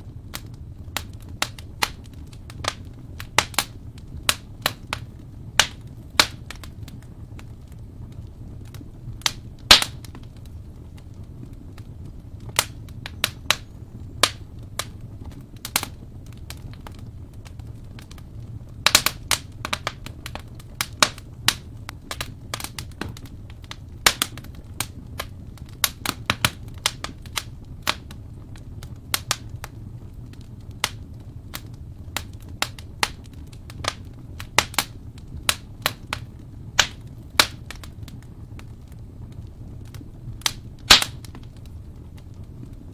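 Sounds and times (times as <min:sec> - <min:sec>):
low rumble of burning: 0:00.0 - 0:42.9
wood fire pops and snaps: 0:00.0 - 0:42.9.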